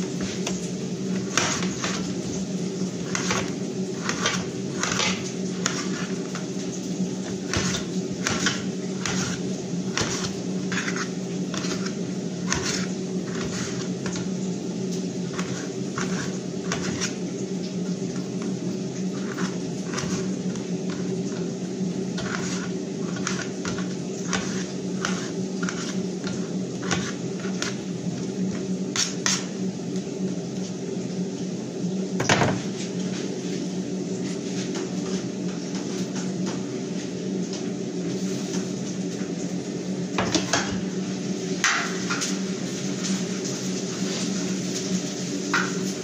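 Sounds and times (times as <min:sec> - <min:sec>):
machine hum: 0:00.0 - 0:43.8.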